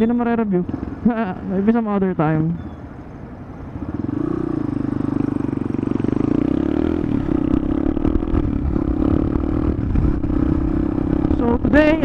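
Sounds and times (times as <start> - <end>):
motorcycle engine running: 0.0 - 2.8, 3.5 - 12.0.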